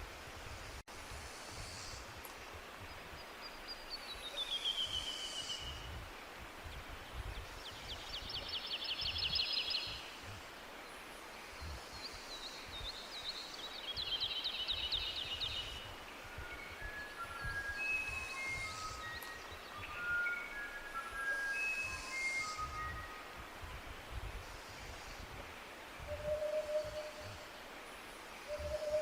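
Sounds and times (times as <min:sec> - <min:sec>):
steady background hiss: 0:00.0 - 0:29.0
songbirds trilling: 0:01.6 - 0:06.0, 0:06.7 - 0:23.4, 0:26.0 - 0:29.0.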